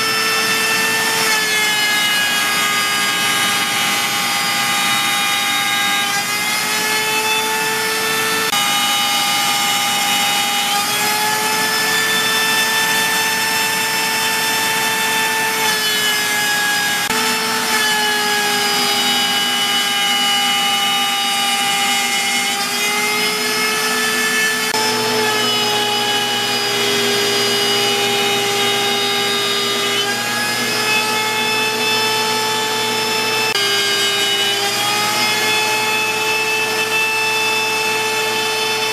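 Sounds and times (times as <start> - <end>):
router motor whine: 0.0 - 38.9
shop vac running: 0.0 - 38.9.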